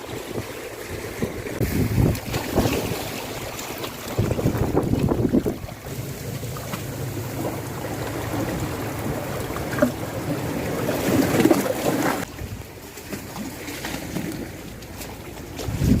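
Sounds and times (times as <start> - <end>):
wind buffeting microphone: 0.0 - 12.8, 15.5 - 16.0
sea waves at shore: 0.0 - 16.0.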